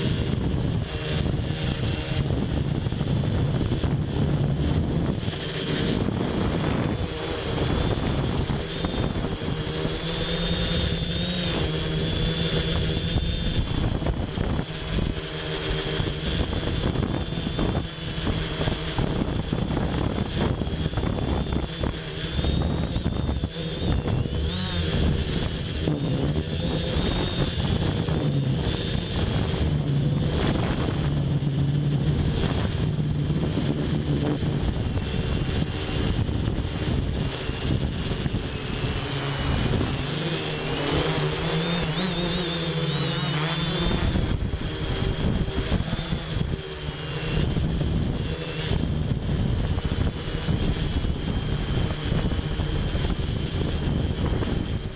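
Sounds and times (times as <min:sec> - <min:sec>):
drone motors whirring: 0:00.0 - 0:54.9
high whine: 0:00.0 - 0:54.9.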